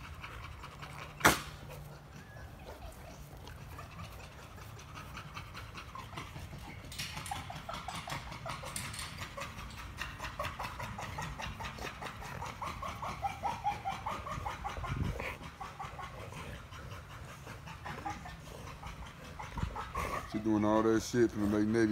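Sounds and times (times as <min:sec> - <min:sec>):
dogs panting: 0:00.0 - 0:21.9
dogs whining: 0:00.0 - 0:21.9.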